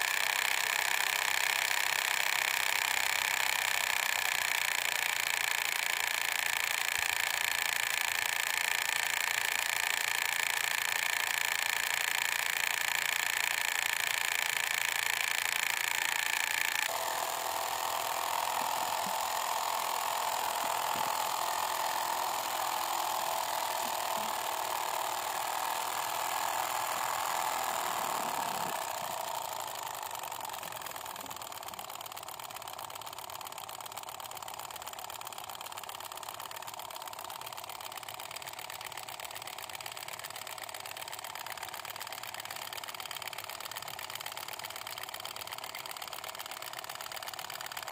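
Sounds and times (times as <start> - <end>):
small motor whirring hum: 0.0 - 47.9.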